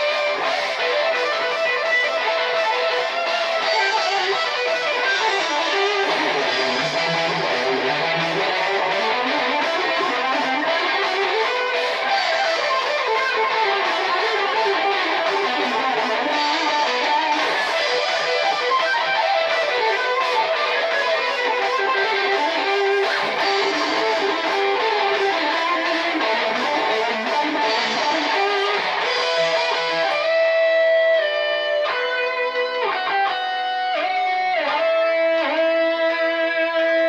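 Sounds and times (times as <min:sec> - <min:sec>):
electric guitar lead solo: 0:00.0 - 0:37.0
heavy metal backing track: 0:00.0 - 0:37.0.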